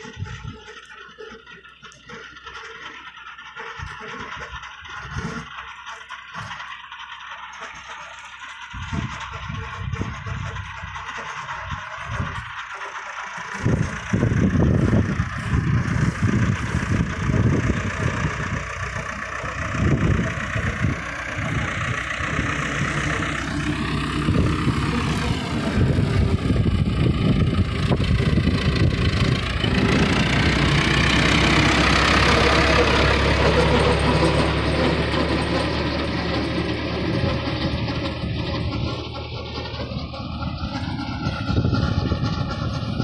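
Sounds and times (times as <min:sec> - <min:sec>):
tractor diesel engine driving by: 0:00.0 - 0:43.0.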